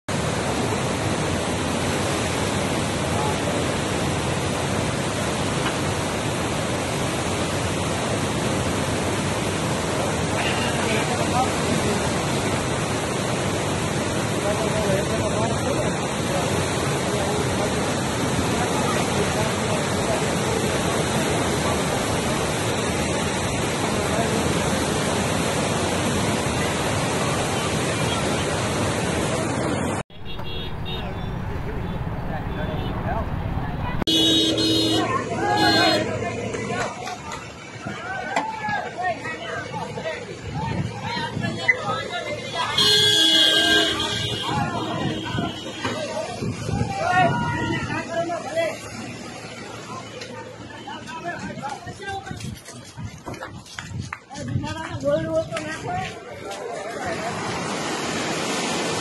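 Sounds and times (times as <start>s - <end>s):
floodwater rushing over dam: 0.1s - 59.0s.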